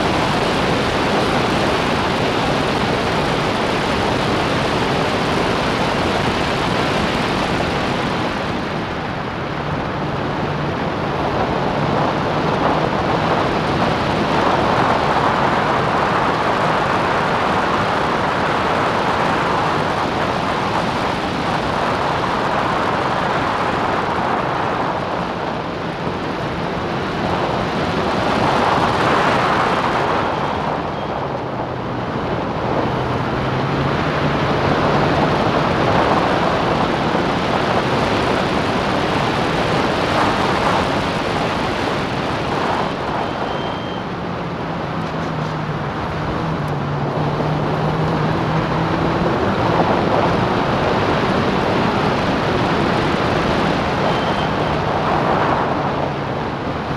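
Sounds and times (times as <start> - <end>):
race car engine: 0.0 - 56.9
wind buffeting microphone: 0.0 - 56.9.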